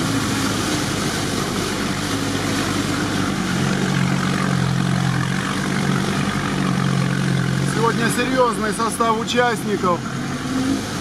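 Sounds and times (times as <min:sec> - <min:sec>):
constant rushing noise: 0:00.0 - 0:11.0
vehicle engine running: 0:00.0 - 0:11.0.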